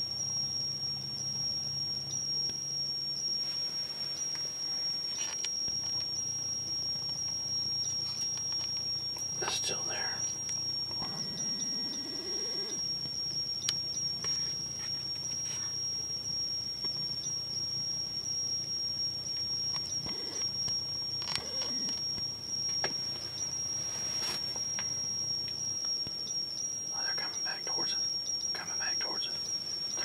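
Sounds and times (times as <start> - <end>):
steady high-pitched whine: 0.0 - 30.0.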